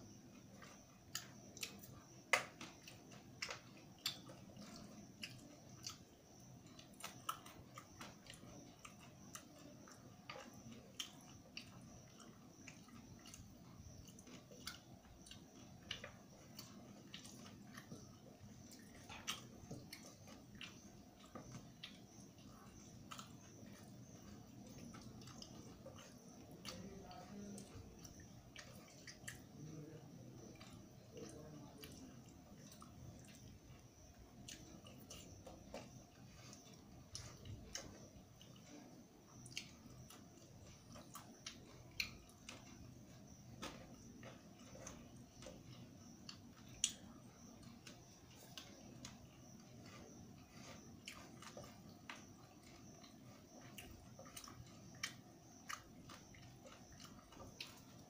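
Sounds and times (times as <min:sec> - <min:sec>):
person chewing: 0:00.3 - 0:58.0.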